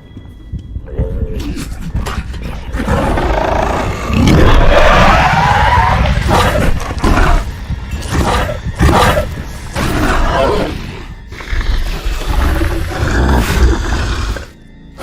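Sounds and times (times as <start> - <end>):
background music: 0.0 - 15.0
dinosaur roars and cries: 0.9 - 15.0.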